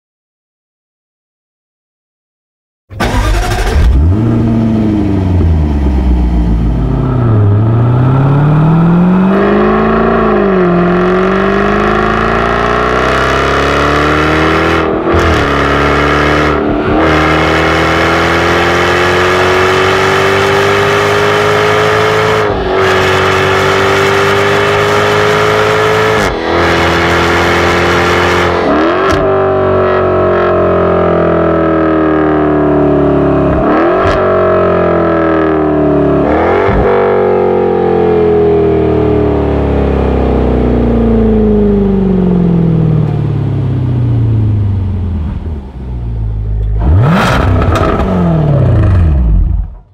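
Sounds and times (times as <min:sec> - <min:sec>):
car engine accelerating: 0:02.9 - 0:49.9.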